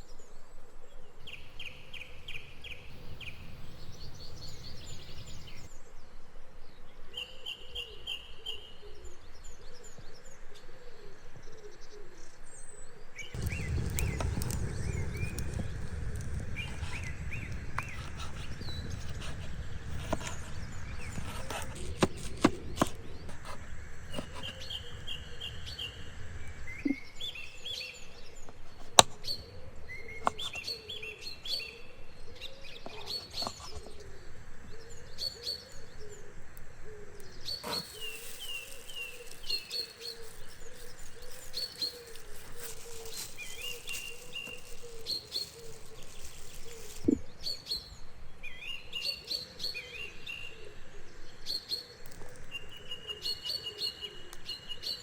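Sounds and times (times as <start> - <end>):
birds chirping and trilling: 1.2 - 5.8, 12.4 - 55.0.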